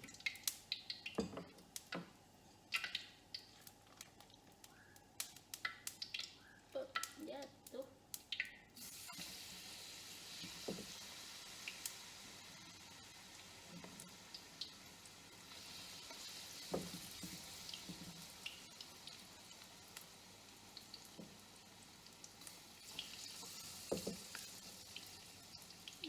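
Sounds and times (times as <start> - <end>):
fritters sizzling in hot oil: 0.0 - 26.0.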